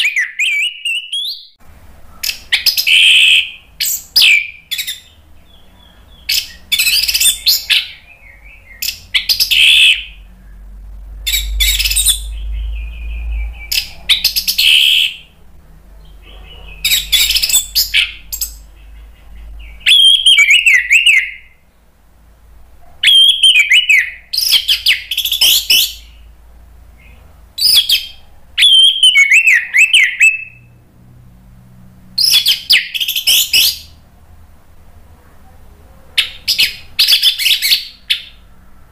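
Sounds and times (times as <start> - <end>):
thrush singing warbling trills: 0.0 - 34.4.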